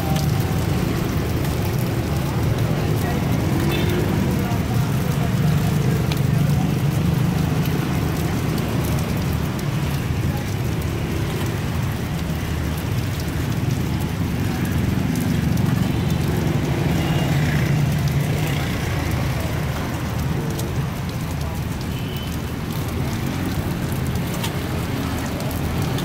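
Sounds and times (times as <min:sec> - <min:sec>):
low traffic rumble: 0:00.0 - 0:26.0.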